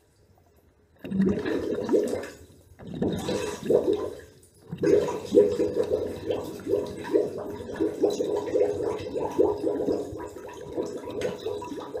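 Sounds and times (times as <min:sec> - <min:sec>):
underwater bubbling: 0:01.0 - 0:12.0.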